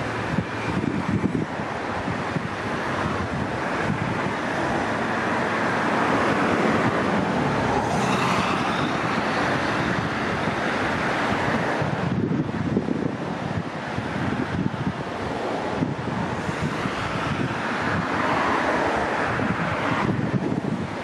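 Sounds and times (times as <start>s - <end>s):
cars passing on highway: 0.0s - 21.0s
wind buffeting microphone: 0.0s - 21.0s.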